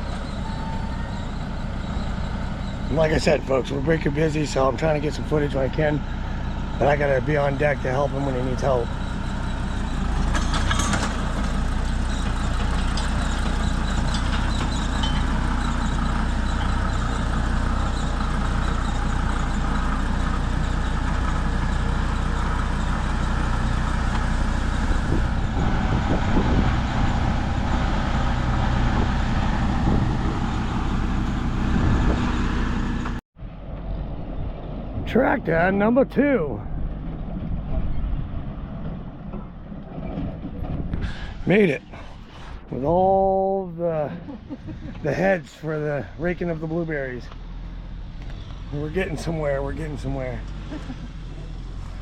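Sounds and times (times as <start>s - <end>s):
heavy vehicle engine humming: 0.0s - 52.0s.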